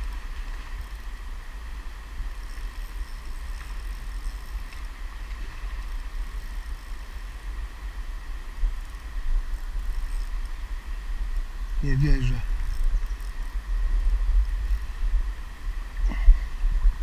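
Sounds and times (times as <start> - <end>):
faint river water hiss: 0.0 - 17.0.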